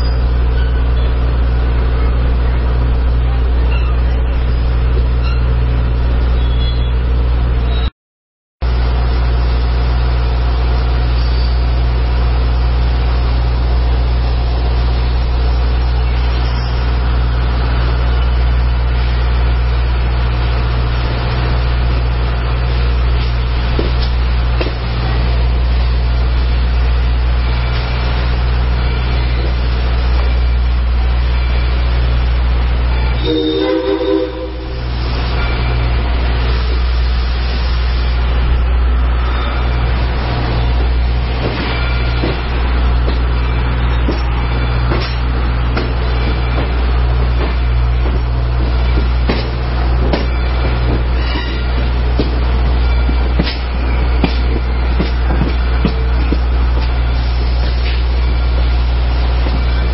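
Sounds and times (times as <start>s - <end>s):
steam train rumbling: 0.0s - 7.8s, 8.6s - 59.9s.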